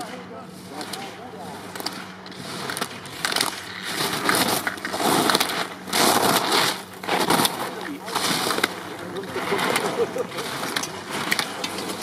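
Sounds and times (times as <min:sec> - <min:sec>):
skis scraping on snow: 0:01.9 - 0:12.0.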